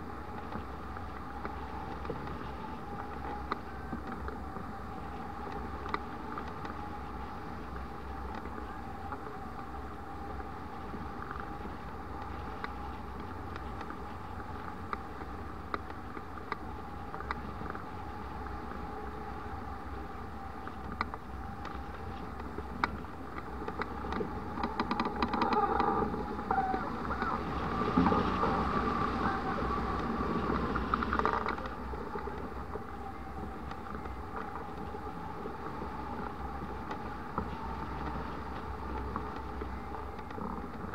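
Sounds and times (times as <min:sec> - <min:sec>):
faint steady tone: 0:00.0 - 0:40.9
light ticks: 0:00.0 - 0:40.9
wind buffeting microphone: 0:00.0 - 0:40.9.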